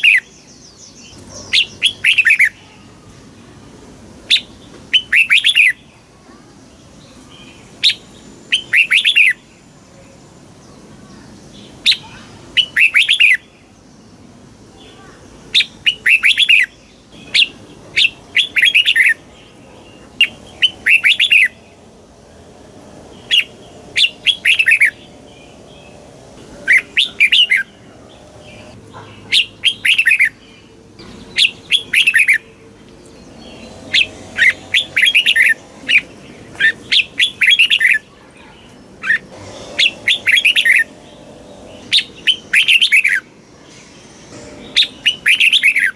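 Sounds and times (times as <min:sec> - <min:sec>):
bird singing: 0:00.0 - 0:02.7, 0:04.3 - 0:14.2, 0:14.8 - 0:45.9
faint background noise: 0:00.0 - 0:45.9.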